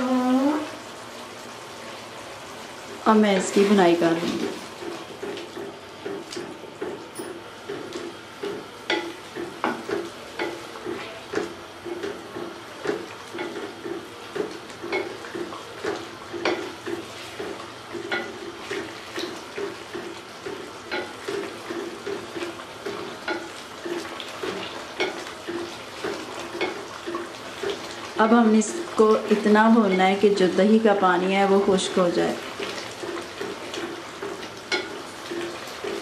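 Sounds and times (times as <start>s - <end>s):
curry frying: 0.0s - 36.0s.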